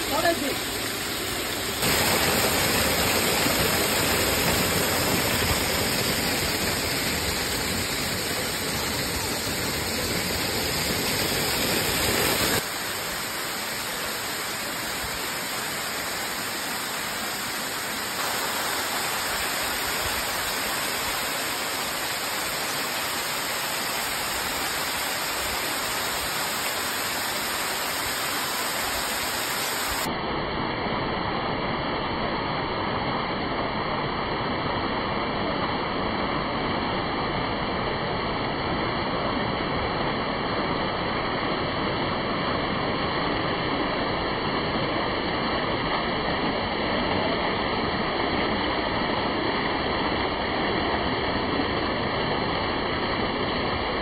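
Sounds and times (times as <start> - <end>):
waterfall rushing over rock: 0.0 - 30.7, 31.3 - 54.0.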